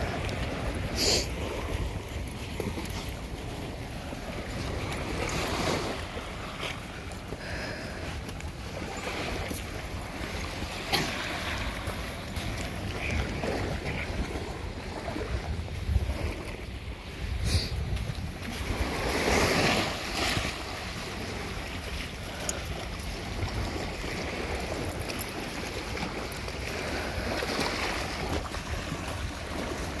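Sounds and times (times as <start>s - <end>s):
small waves washing onto sand: 0.0s - 30.0s
wind blowing across microphone: 0.0s - 30.0s.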